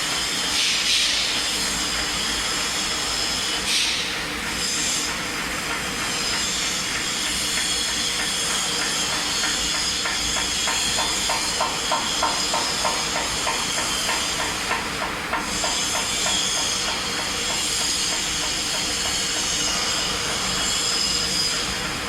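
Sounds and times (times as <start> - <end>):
metal spinning machine hiss: 0.0 - 22.0.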